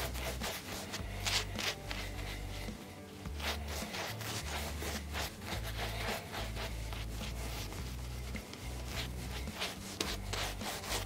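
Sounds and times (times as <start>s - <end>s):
shaving brush scratching on stubble: 0.0s - 11.0s.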